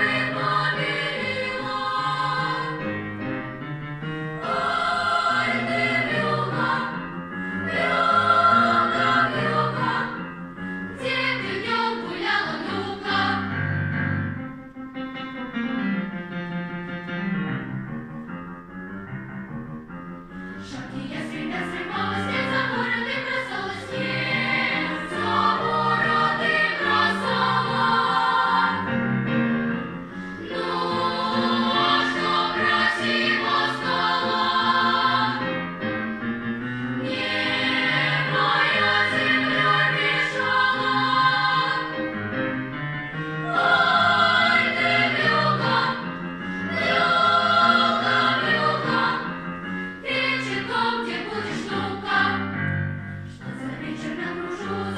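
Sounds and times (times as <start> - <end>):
choir singing: 0.0 - 14.4, 20.6 - 36.2, 36.8 - 54.9.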